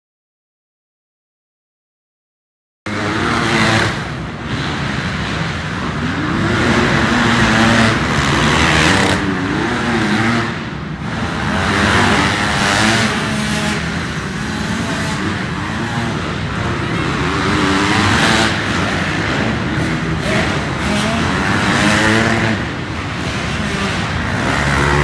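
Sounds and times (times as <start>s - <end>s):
dirt bike engines revving: 2.9s - 25.0s.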